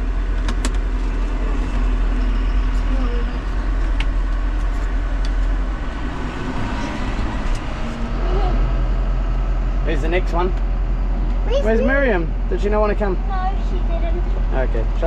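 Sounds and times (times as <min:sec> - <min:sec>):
farm vehicle engine rumble: 0:00.0 - 0:15.0.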